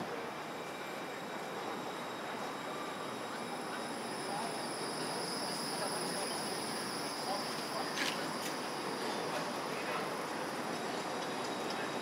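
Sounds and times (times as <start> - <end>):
high-pitched whine: 0.0 - 12.0
tram rolling on track: 0.0 - 12.0.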